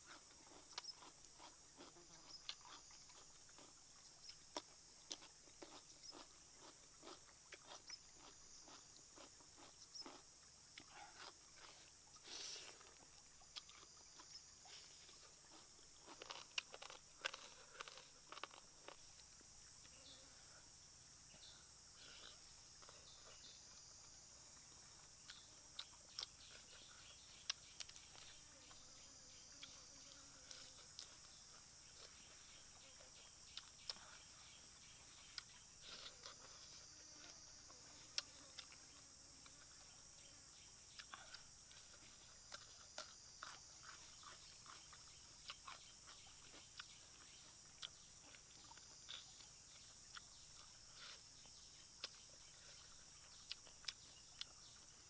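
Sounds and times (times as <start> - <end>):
soft crunches of chewing: 0.0 - 20.1, 21.3 - 55.0
insects droning: 0.0 - 55.0.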